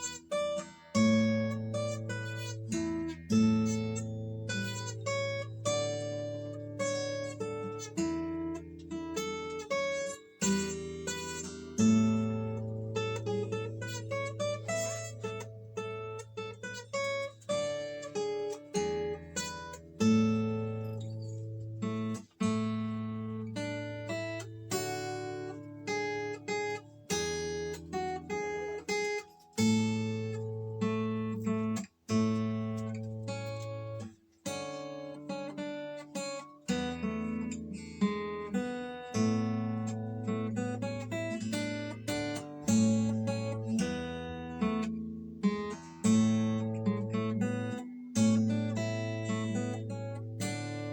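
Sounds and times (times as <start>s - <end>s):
acoustic guitar chords: 0.0s - 50.9s.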